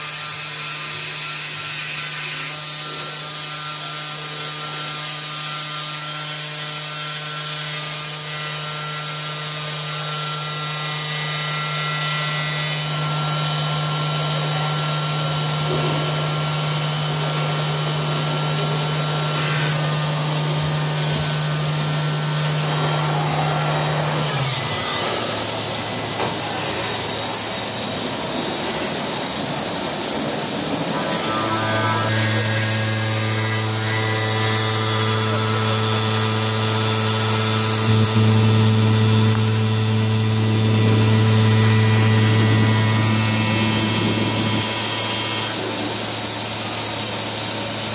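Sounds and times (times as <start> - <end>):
spindle whine: 0.0 - 47.9
steady motor hum: 0.0 - 47.9.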